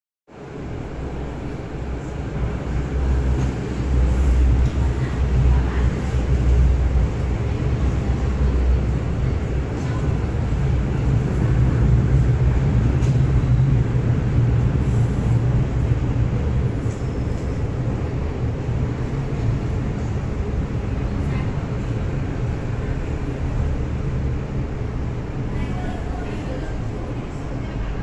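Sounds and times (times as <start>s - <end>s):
train wheels rumbling on rail: 0.3s - 28.0s.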